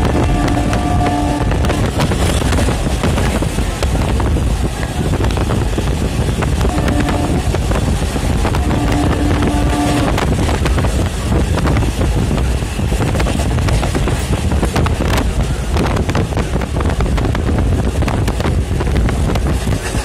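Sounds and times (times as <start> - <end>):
train wheels clattering on rail: 0.0 - 20.0
wind rushing over microphone: 0.0 - 20.0.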